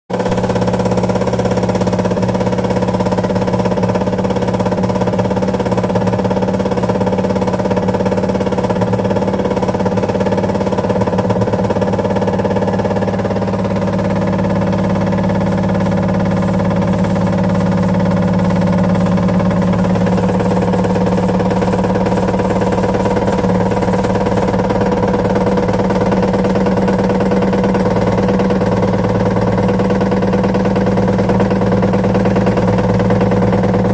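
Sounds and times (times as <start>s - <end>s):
washing machine humming and rattling: 0.1s - 33.9s.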